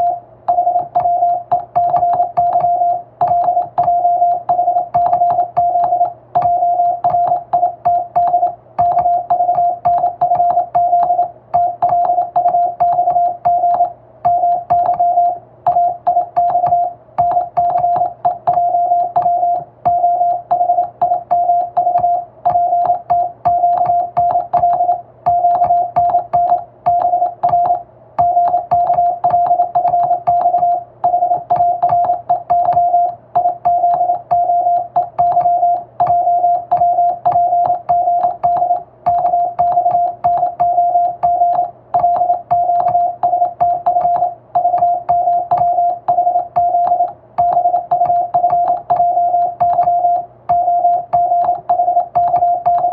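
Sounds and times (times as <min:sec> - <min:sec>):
morse code tone: 0:00.0 - 0:52.9
telegraph key clicks: 0:00.8 - 0:52.9.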